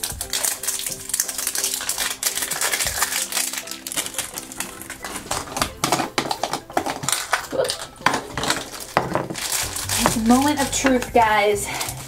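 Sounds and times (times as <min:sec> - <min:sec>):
plastic wrapping crinkling: 0:00.0 - 0:12.0
quiet background music: 0:00.0 - 0:12.0.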